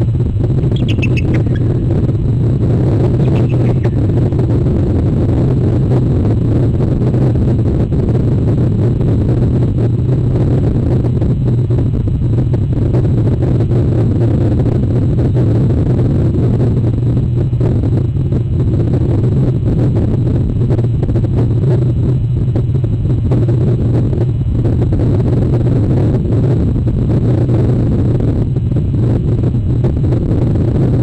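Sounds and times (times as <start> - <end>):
wind rumble on microphone: 0.0 - 31.0.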